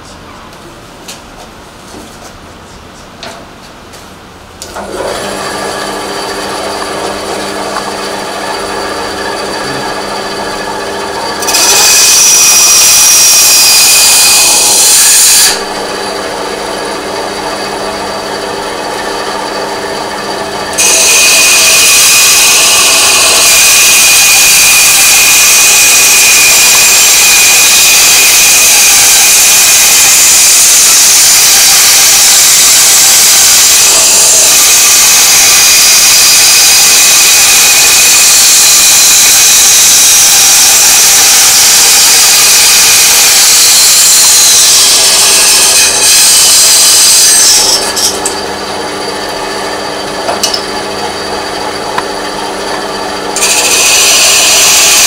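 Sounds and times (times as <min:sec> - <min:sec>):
electric saw cutting: 0:04.7 - 0:55.0
saw motor running: 0:04.7 - 0:55.0.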